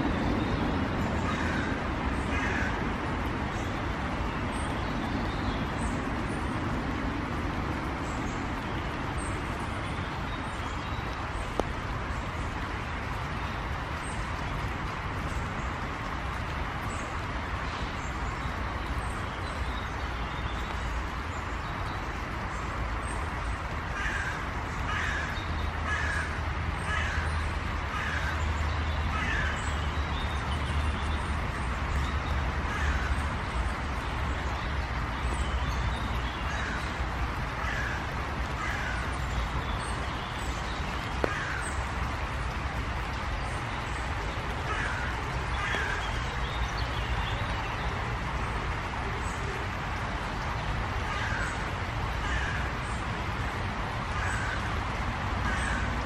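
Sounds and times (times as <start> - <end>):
steady background noise: 0.0 - 56.0.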